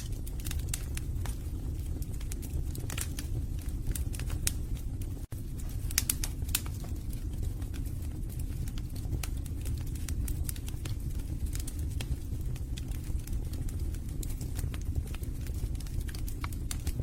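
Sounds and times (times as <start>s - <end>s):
logs crackling and popping: 0.0s - 17.0s
low rumble of fire flames: 0.0s - 17.0s.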